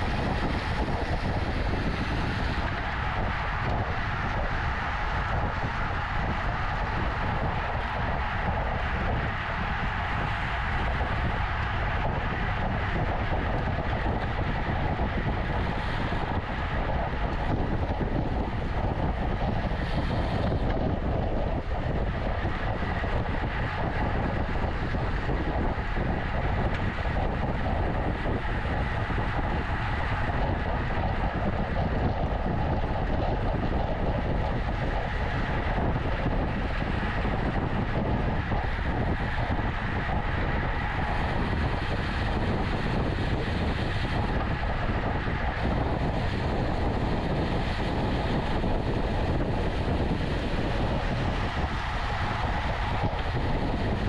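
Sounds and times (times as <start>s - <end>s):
bike road noise: 0.0s - 54.0s
wind rush over microphone: 0.0s - 54.0s.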